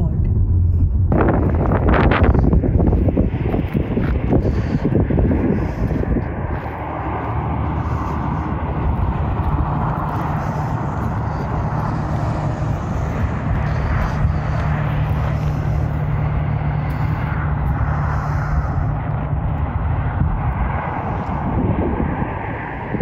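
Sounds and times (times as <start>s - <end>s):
highway traffic rumble: 0.0s - 23.0s
wind on microphone: 0.0s - 23.0s.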